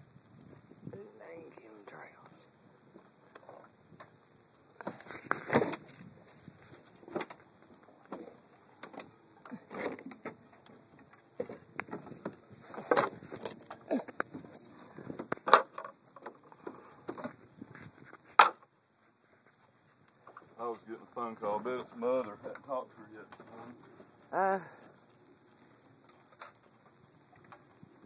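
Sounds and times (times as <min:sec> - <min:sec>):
rustling: 0:02.9 - 0:28.0.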